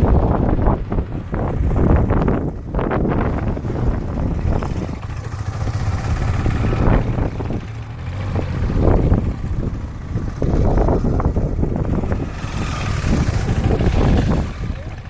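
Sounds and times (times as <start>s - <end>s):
motorcycle engines at low speed: 0.0s - 15.0s.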